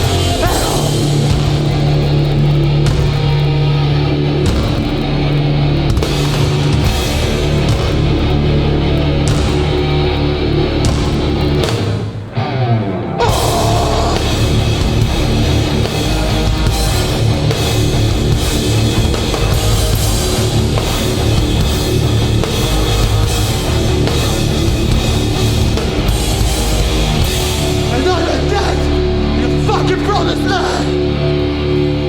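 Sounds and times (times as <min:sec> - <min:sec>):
pounding drums and cymbals: 0:00.0 - 0:12.2, 0:13.2 - 0:31.0
bass guitar: 0:00.0 - 0:32.0
distorted guitars: 0:00.0 - 0:32.0.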